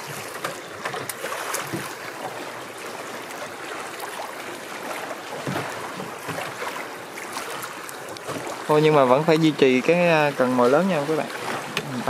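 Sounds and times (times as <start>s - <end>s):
river water rushing around hull: 0.0s - 12.0s.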